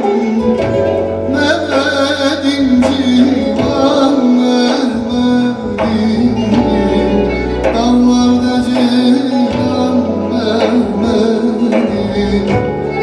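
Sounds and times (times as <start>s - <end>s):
drum beat: 0.4s - 13.0s.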